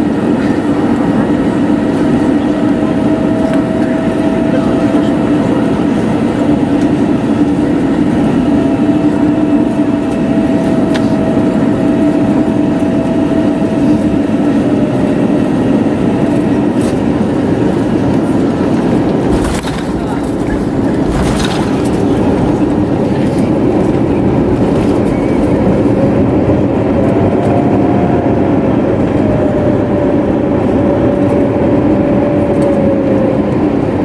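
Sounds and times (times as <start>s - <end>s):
jet engines at low thrust: 0.0s - 34.0s
low hum: 0.0s - 34.0s
wheels rumbling: 0.0s - 34.0s.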